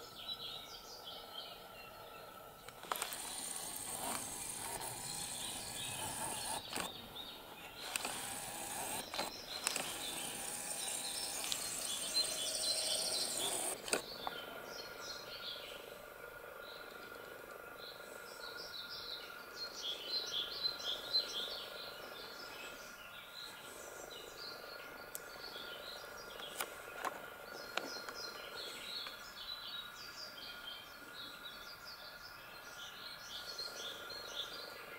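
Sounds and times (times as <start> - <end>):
outdoor background noise: 0.0 - 34.9
small birds chirping: 0.0 - 34.9.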